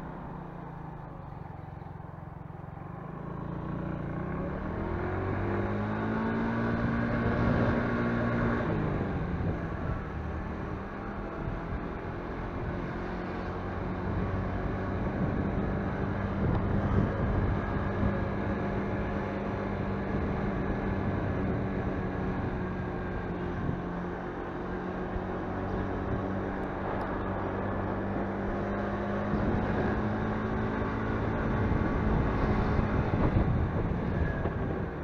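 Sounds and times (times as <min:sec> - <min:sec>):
motorcycle engine accelerating: 0:00.0 - 0:35.0
wind and road noise: 0:00.0 - 0:35.0.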